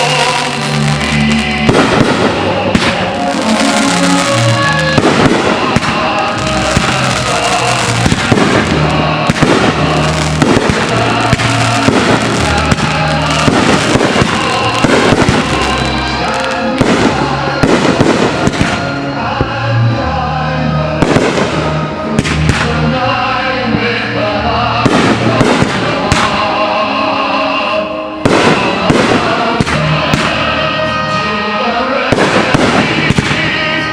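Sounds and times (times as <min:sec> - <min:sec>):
fireworks bangs and crackles: 0:00.0 - 0:19.6, 0:21.0 - 0:22.9, 0:24.8 - 0:26.7, 0:28.2 - 0:31.0, 0:32.0 - 0:33.9
loud music: 0:00.0 - 0:33.9.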